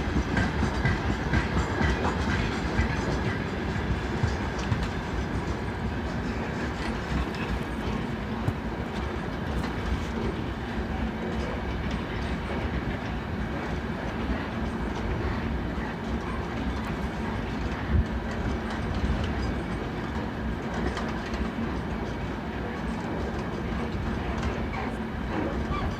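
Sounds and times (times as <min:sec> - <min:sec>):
freight train wagons rolling: 0:00.0 - 0:25.9.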